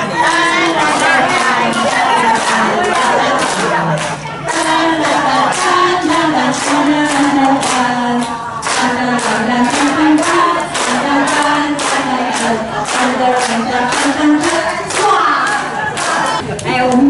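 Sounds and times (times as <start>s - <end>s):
group of voices singing: 0.0s - 16.5s.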